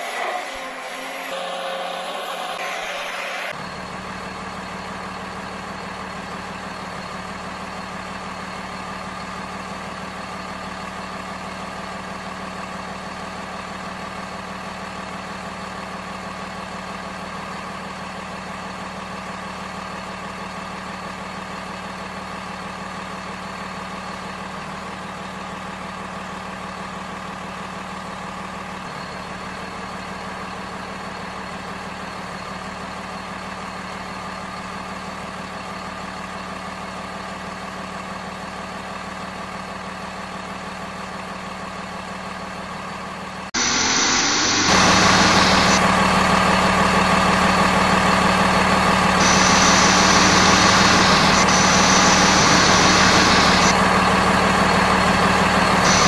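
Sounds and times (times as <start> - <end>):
truck engine idling: 3.5 - 56.0.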